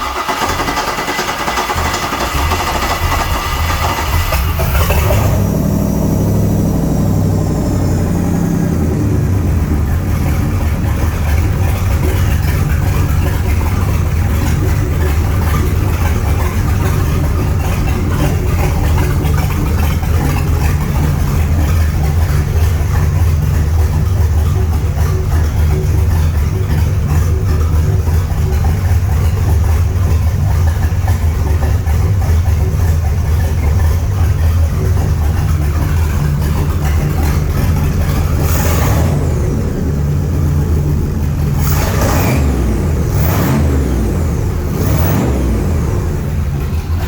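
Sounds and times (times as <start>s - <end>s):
engine cranking and idling: 0.0s - 47.0s.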